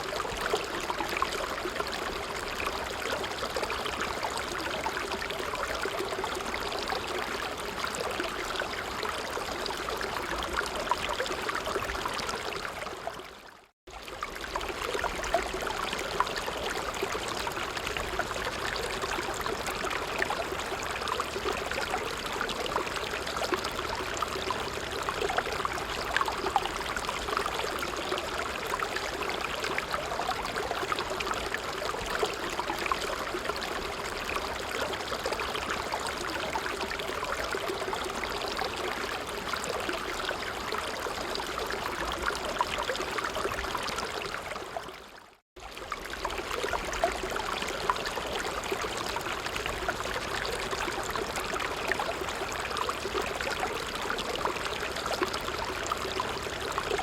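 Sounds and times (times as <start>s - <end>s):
creek water gurgling: 0.0s - 57.0s.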